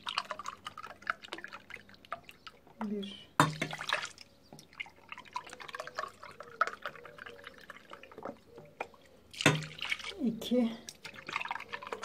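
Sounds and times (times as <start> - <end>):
milk pouring into steel pot: 0.0 - 2.8, 3.4 - 12.0
small splashes and drips: 0.0 - 12.0.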